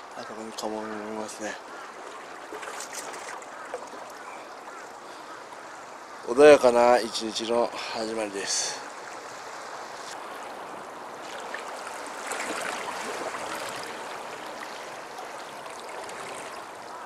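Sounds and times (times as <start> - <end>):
small waves lapping against rocks: 0.3 - 6.6, 8.7 - 17.0.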